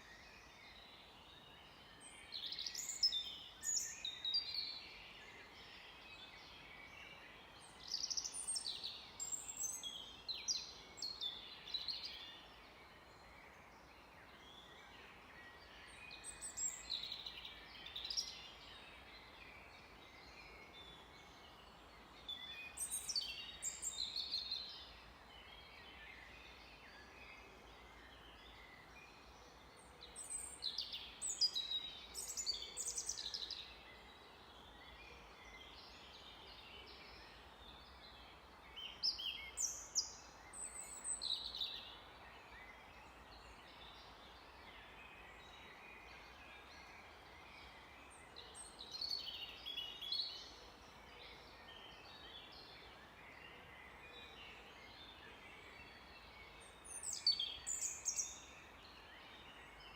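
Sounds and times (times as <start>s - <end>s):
faint background hiss: 0.0s - 59.9s
songbird singing: 0.0s - 59.9s.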